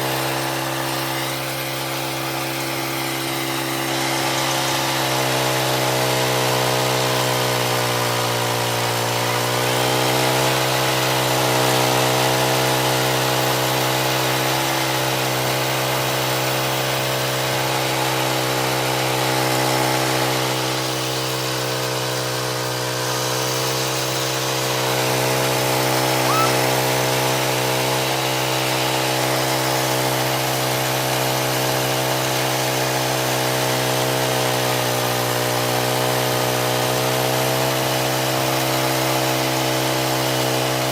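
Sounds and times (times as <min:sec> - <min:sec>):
sawmill gas engine running: 0:00.0 - 0:40.9.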